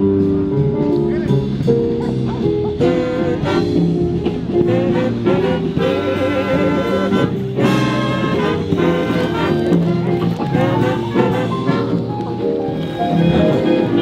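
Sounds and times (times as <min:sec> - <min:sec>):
big band swing jazz: 0:00.0 - 0:14.0
brass section: 0:01.8 - 0:14.0.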